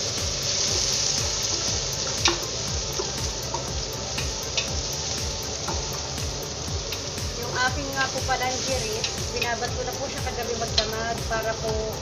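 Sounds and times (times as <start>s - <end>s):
onions and tomato sizzling: 0.0s - 12.0s.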